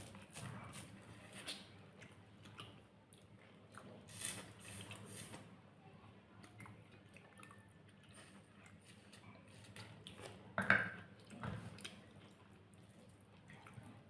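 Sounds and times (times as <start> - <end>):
person chewing food: 0.0 - 5.4, 6.4 - 14.0.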